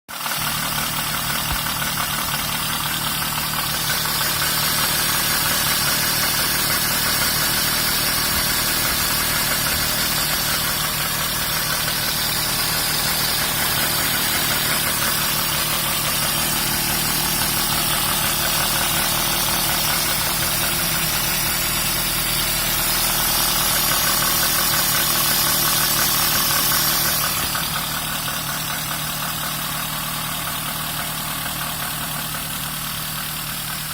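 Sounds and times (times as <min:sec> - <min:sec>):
car engine idling irregularly: 0:00.1 - 0:33.9.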